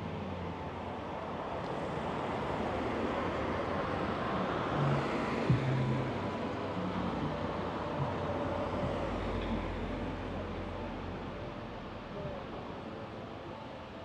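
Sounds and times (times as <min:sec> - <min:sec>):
car passing: 0:00.0 - 0:13.7.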